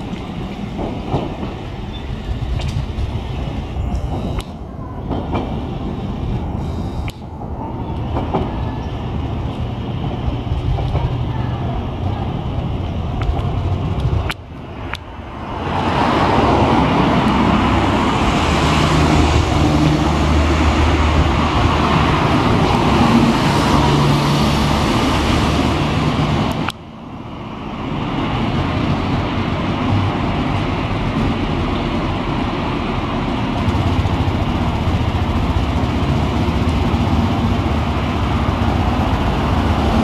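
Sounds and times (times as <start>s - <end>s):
cars passing: 0.0s - 40.0s
streetcar approaching: 0.0s - 40.0s.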